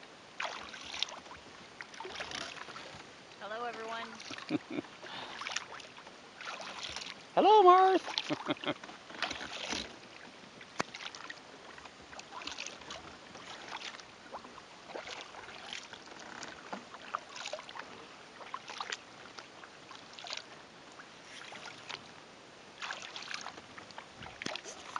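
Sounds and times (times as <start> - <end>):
paddle splashing water: 0.0 - 24.9
soft water wash: 0.0 - 24.9.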